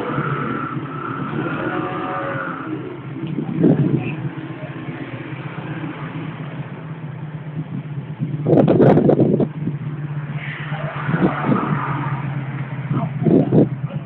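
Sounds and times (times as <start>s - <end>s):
motorcycle engine idling: 0.0s - 10.3s, 12.3s - 14.0s.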